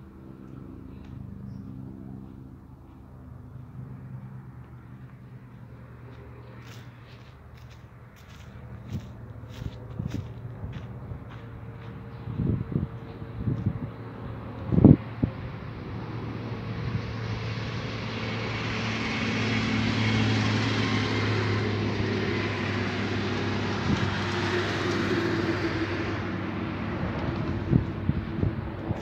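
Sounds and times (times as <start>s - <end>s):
vehicle passing by: 0.0s - 29.0s.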